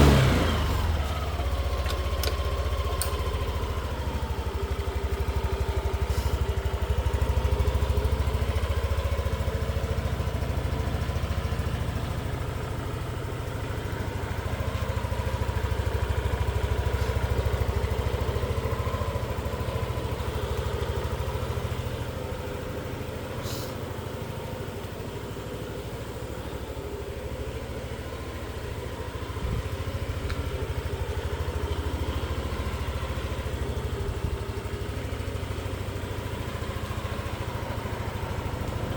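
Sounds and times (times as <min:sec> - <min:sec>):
scooter engine idling: 0:00.0 - 0:38.9.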